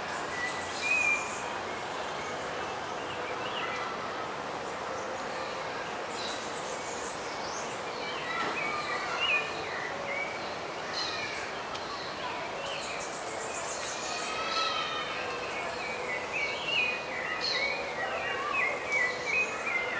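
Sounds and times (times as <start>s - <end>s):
birds chirping: 0.0s - 19.9s
city traffic hum: 0.0s - 19.9s.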